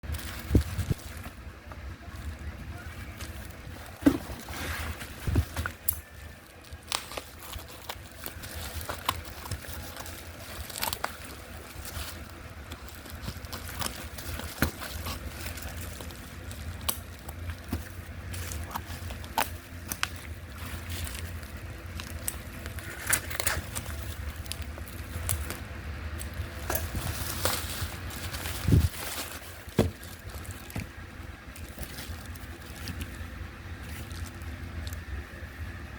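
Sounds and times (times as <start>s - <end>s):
packaging clicks and rustles: 0.0s - 35.3s
steady low rumble: 0.0s - 35.9s.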